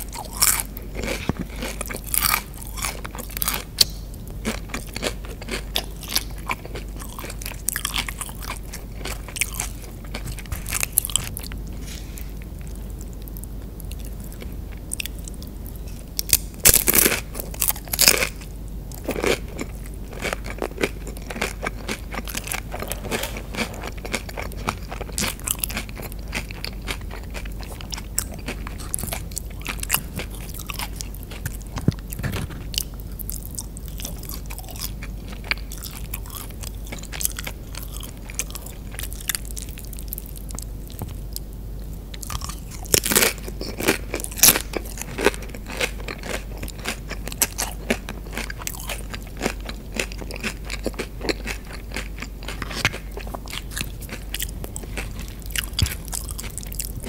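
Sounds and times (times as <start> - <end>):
tortilla chips crunching: 0.0 - 12.4, 16.2 - 18.4, 19.0 - 40.6, 42.2 - 57.0
mouth chewing food: 0.0 - 41.4, 42.1 - 57.0.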